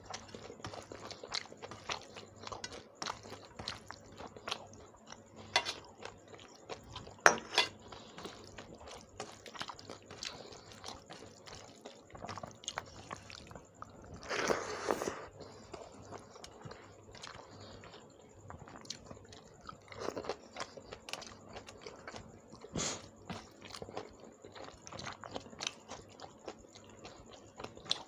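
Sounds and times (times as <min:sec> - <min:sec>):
wet chewing and mouth clicks: 0:00.0 - 0:28.0.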